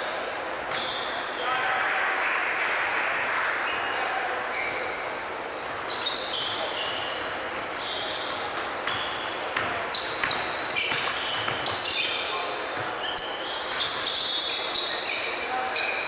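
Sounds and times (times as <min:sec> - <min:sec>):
murmur of voices: 0:00.0 - 0:16.0
sneakers squeaking: 0:00.0 - 0:16.0.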